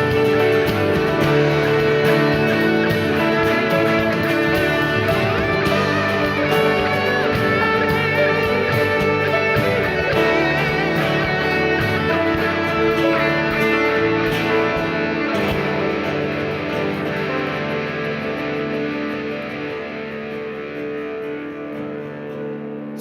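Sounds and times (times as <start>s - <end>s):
steady drum beat: 0.0s - 19.0s
worship band playing: 0.0s - 22.0s
electric guitar: 0.0s - 23.0s.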